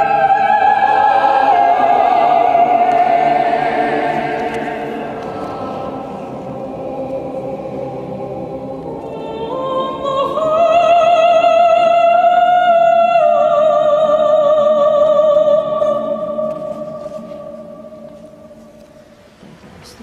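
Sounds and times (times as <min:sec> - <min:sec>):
church choir singing: 0:00.0 - 0:19.2.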